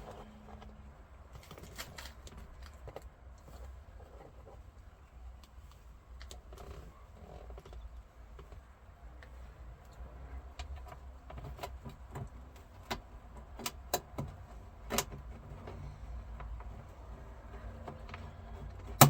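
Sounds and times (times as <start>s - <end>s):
clicks and knocks of plastic parts: 0.0s - 4.7s, 5.4s - 19.0s
low steady hum: 0.0s - 19.0s.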